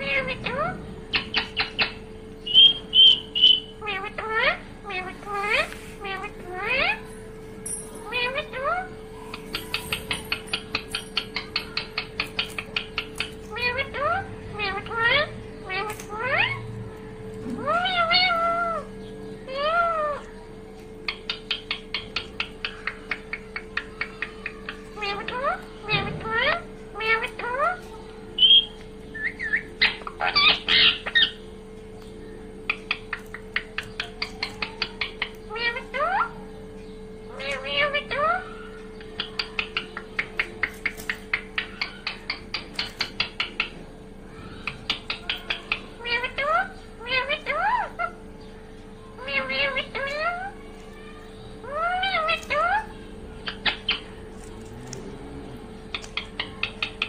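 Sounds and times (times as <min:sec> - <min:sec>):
parakeet meow-like calls: 0:00.0 - 0:07.1, 0:08.1 - 0:20.4, 0:21.0 - 0:31.5, 0:32.7 - 0:36.5, 0:37.2 - 0:40.2, 0:40.9 - 0:48.3, 0:49.1 - 0:54.2
faint steady hum: 0:00.0 - 0:57.0.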